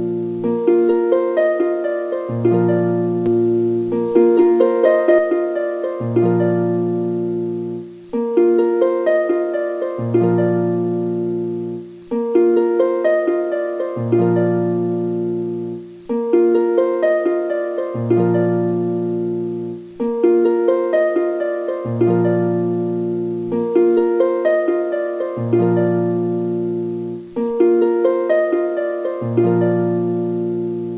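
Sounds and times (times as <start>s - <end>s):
looping plucked harp-like notes: 0.0s - 30.9s.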